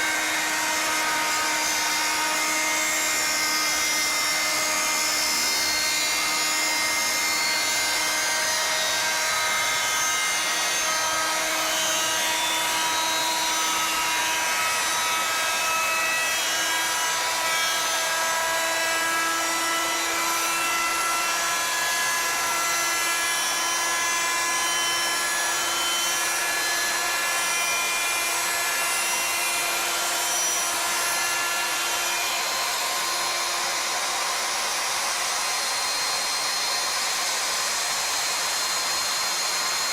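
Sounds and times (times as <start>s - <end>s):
router bit cutting wood: 0.0s - 39.9s
router spindle whining: 0.0s - 39.9s.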